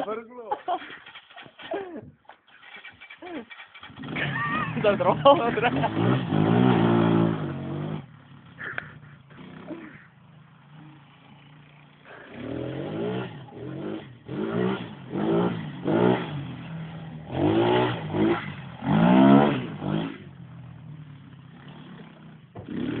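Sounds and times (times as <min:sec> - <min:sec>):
atv engine idling and revving: 0:00.7 - 0:23.0.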